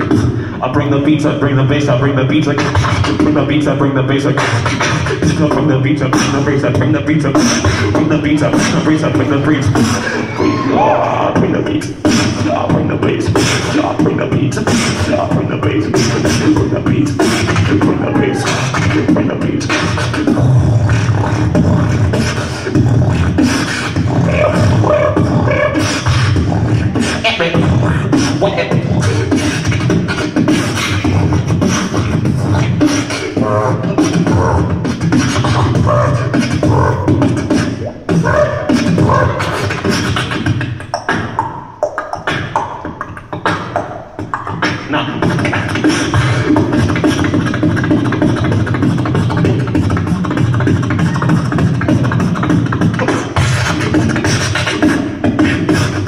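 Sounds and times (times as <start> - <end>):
beatboxing into a microphone: 0.0 - 56.0.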